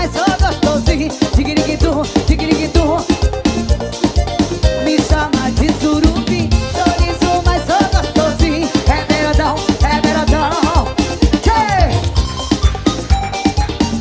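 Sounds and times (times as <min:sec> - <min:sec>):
sliding lead melody: 0:00.0 - 0:14.0
steady drum beat: 0:00.0 - 0:14.0
upbeat dance music: 0:00.0 - 0:14.0.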